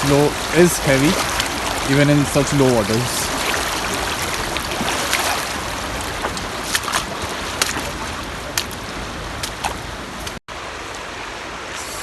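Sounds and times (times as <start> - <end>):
stream rushing around wading person: 0.0 - 12.0.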